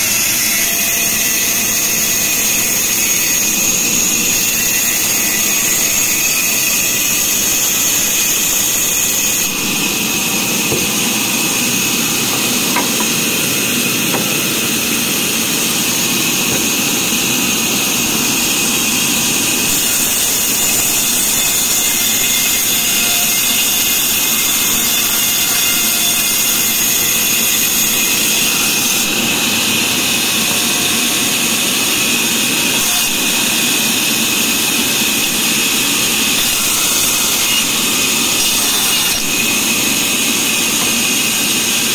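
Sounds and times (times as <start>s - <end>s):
band saw cutting log: 0.0s - 41.9s.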